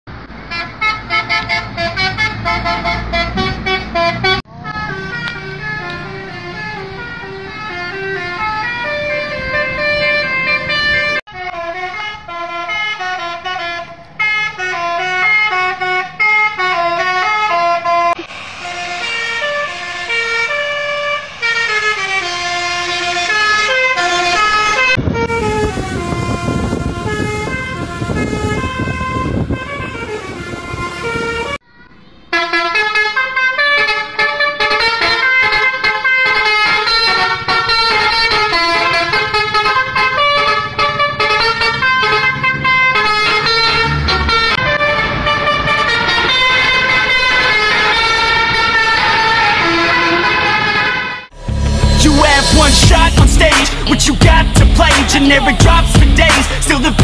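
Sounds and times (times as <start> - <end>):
bus engine rumble: 0.1 - 57.0
bus musical horn tunes: 0.5 - 31.6, 32.3 - 57.0.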